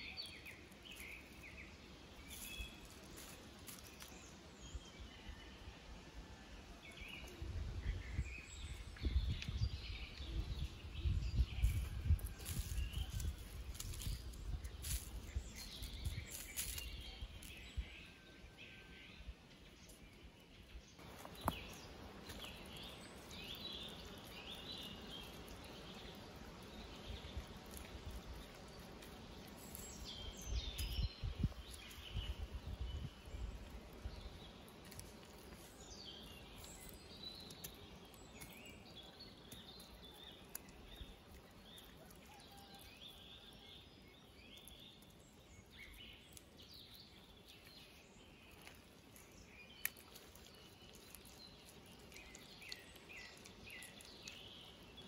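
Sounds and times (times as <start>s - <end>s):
small birds chirping: 0.0s - 5.6s, 6.8s - 55.0s.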